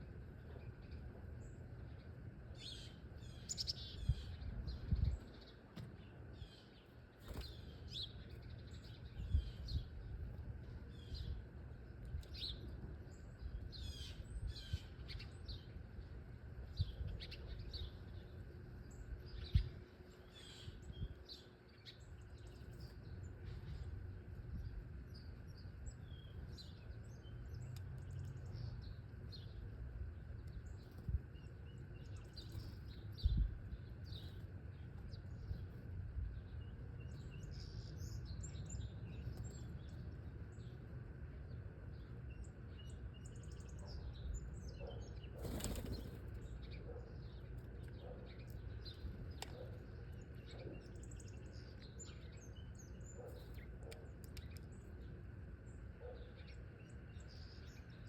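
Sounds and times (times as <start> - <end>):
low outdoor rumble: 0.0 - 58.0
small birds chirping: 0.0 - 58.0.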